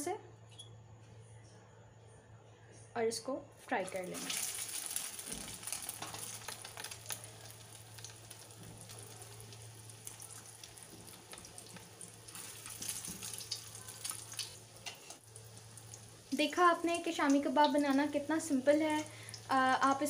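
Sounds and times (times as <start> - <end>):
kababs sizzling in hot oil: 3.8 - 20.0.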